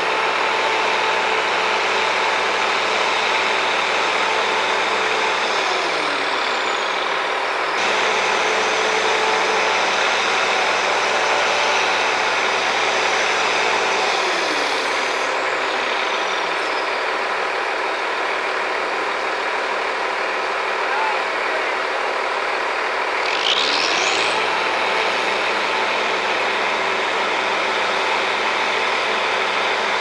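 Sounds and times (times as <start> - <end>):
heavy machinery engine running: 0.0 - 30.0.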